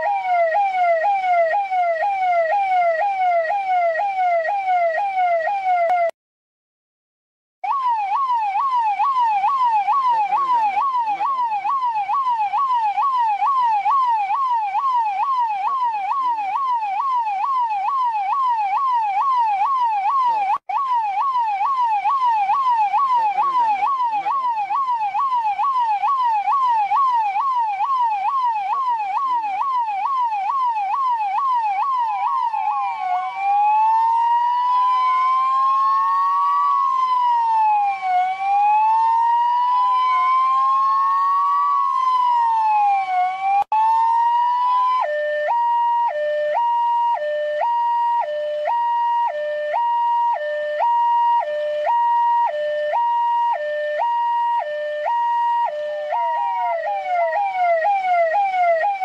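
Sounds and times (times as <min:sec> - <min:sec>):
police siren: 0:00.0 - 0:06.2, 0:07.6 - 0:59.0.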